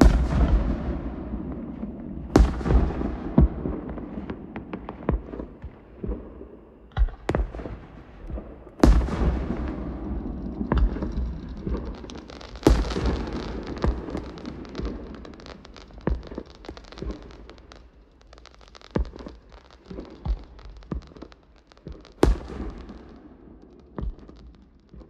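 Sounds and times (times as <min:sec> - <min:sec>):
fireworks booming: 0:00.0 - 0:25.0
fireworks sharp pops: 0:00.0 - 0:25.0.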